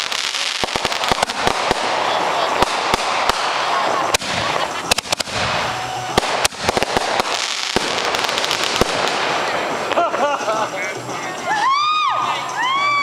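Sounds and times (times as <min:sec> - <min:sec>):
fireworks bangs: 0:00.0 - 0:11.1
fireworks crackling and hissing: 0:00.0 - 0:13.0.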